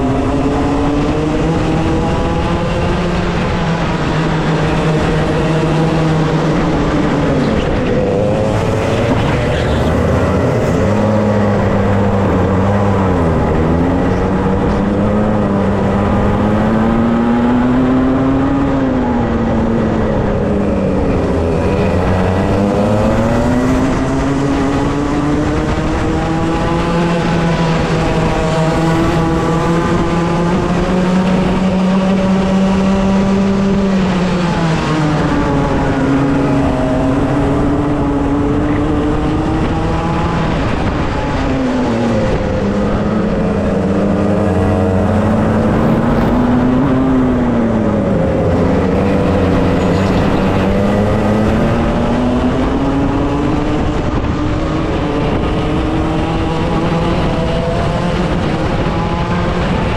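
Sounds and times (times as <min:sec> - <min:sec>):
kart two-stroke engine racing: 0:00.0 - 0:59.9
wind and road noise: 0:00.0 - 0:59.9.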